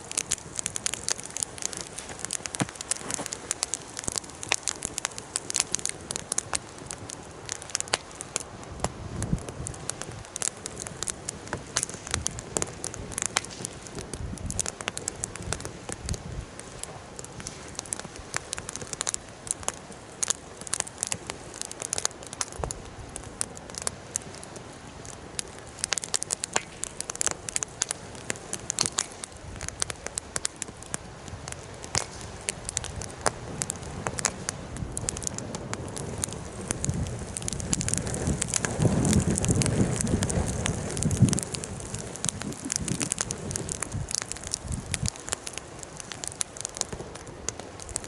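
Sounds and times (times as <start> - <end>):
fire hissing: 0.0 - 48.0
low rushing of fire: 0.0 - 48.0
wood fire crackling and popping: 0.0 - 48.0.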